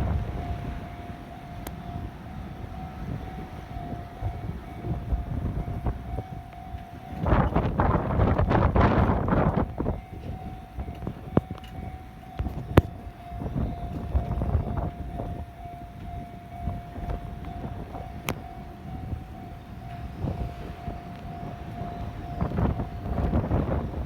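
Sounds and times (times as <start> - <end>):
steady mid-pitched tone: 0.0 - 24.0
wind buffeting microphone: 0.0 - 24.0.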